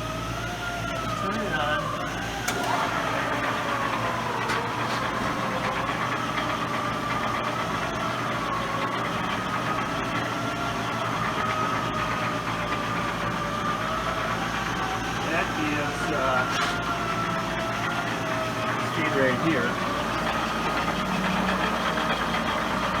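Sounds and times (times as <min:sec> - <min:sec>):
shaper machine humming with whine: 0:00.0 - 0:23.0.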